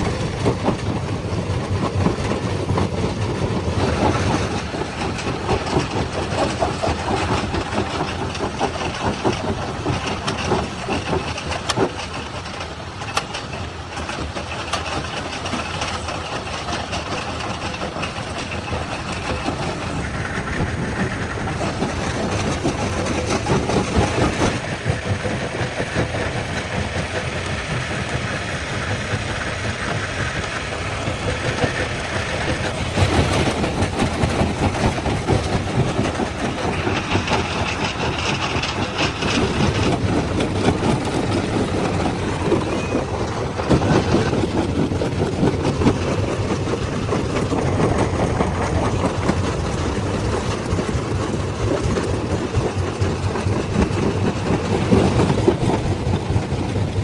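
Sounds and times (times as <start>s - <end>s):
stone crusher engine: 0.0s - 57.0s.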